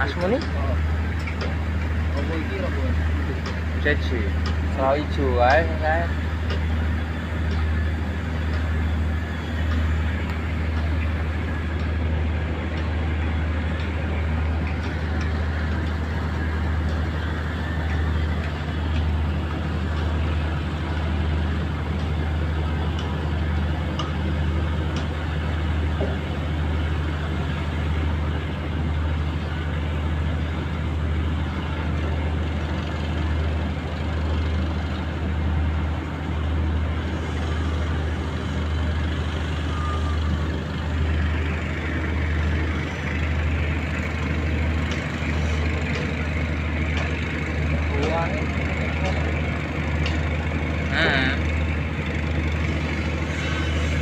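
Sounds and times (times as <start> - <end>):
boat diesel engine droning: 0.0 - 54.0.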